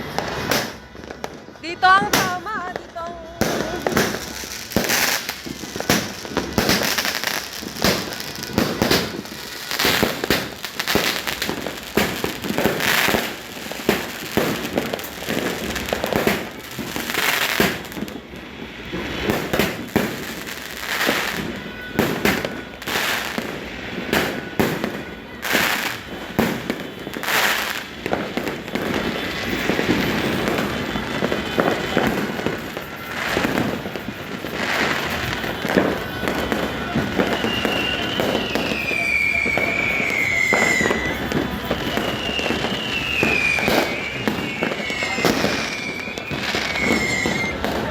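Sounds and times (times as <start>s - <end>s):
fireworks and firecrackers exploding: 0.0s - 47.9s.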